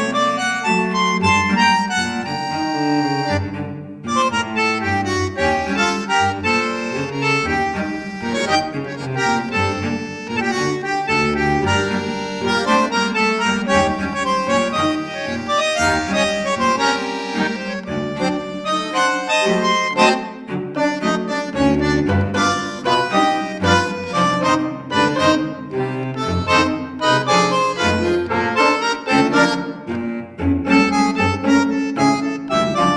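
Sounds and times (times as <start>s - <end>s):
melody of quick notes: 0.0s - 32.9s.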